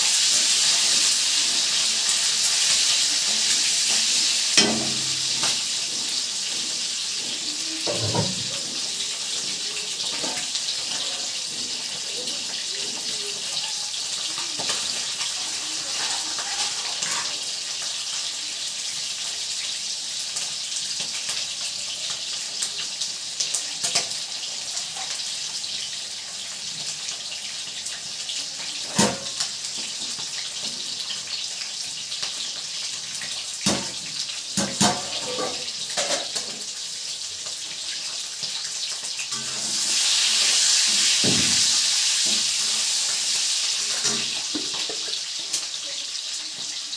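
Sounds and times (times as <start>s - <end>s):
oil sizzling: 0.0s - 46.9s.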